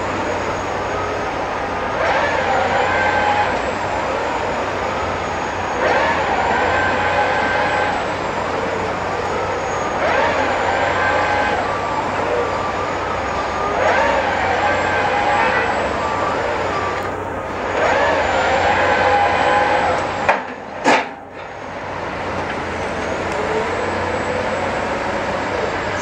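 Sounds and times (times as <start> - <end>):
diesel engine and hydraulics running: 0.0 - 26.0
hydraulic whine: 0.0 - 26.0.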